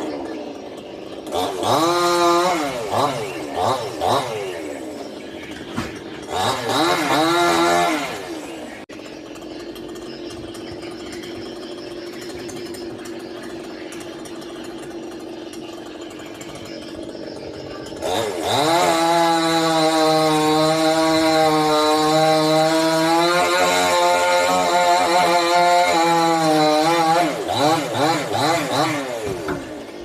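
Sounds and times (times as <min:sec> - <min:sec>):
chainsaw engine revving and idling: 0:00.0 - 0:30.0.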